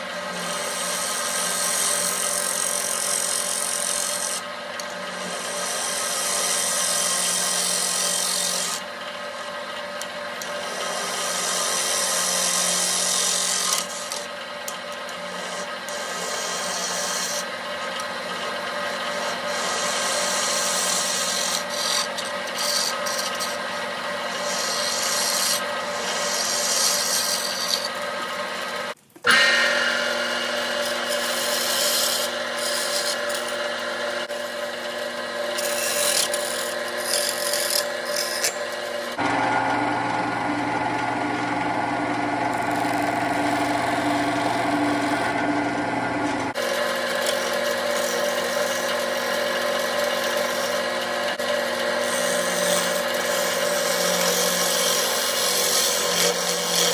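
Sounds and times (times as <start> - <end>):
tool scraping wood: 0.0 - 9.5, 10.4 - 29.5, 30.6 - 39.6, 42.4 - 56.9
lathe motor hum: 0.0 - 56.9.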